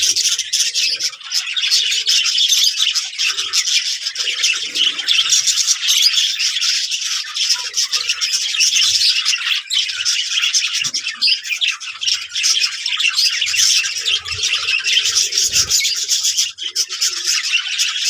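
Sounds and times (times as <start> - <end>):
budgerigars chattering and squawking: 0.0 - 18.0.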